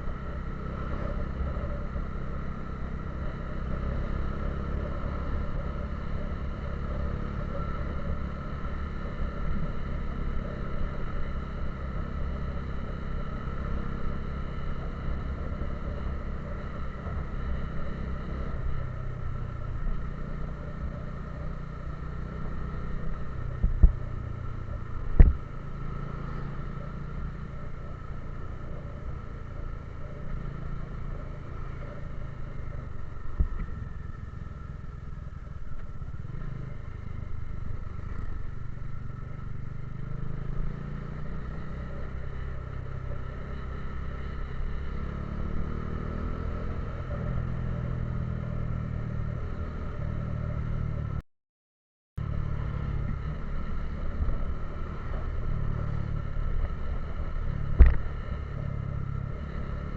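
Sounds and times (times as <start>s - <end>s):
vehicle engine and road noise: 0.0s - 51.2s, 52.2s - 59.9s.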